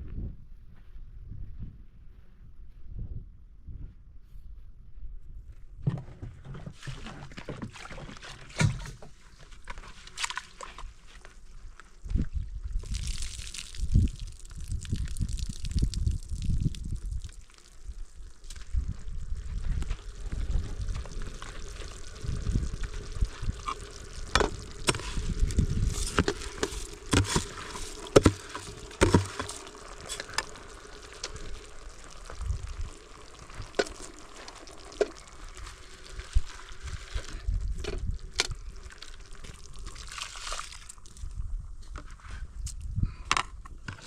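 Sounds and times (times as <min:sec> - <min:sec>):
water pouring and sloshing: 0:05.8 - 0:42.8.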